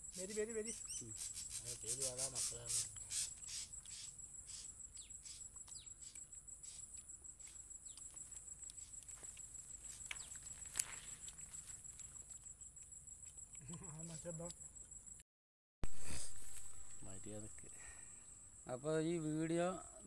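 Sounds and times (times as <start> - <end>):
insects trilling: 0.0 - 15.2, 15.8 - 20.0.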